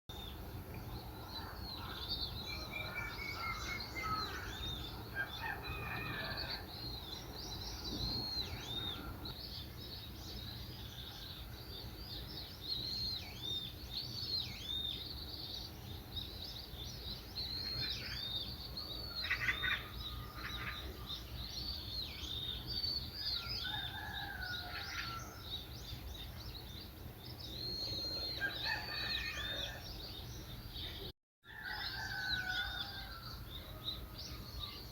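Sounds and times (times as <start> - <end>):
songbirds chirping and singing: 0.1 - 34.9.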